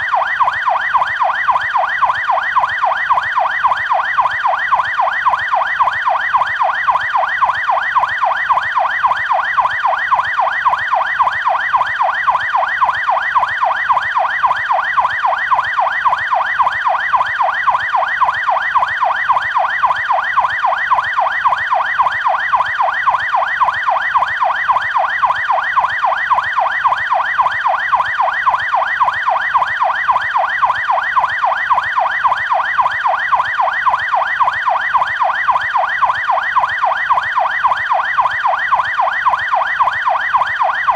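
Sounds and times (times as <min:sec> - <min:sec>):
police siren yelping: 0:00.0 - 0:40.9.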